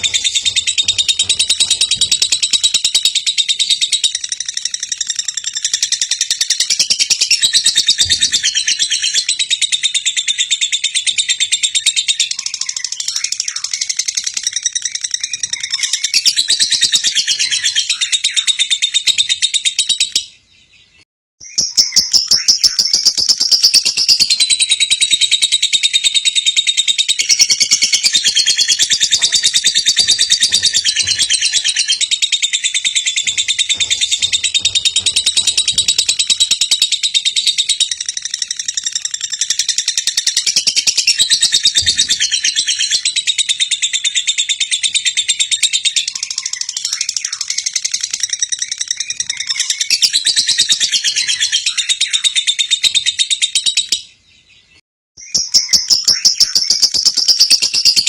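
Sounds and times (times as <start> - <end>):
bird chattering chirps: 0.0 - 20.4, 21.5 - 53.9.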